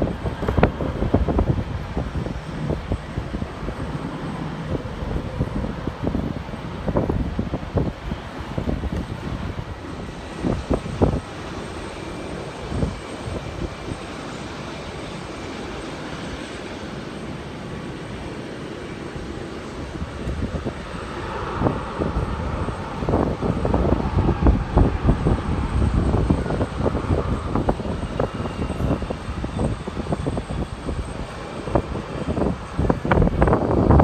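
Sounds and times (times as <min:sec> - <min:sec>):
jet engine noise: 0:00.0 - 0:34.0
wind buffeting microphone: 0:00.0 - 0:34.0.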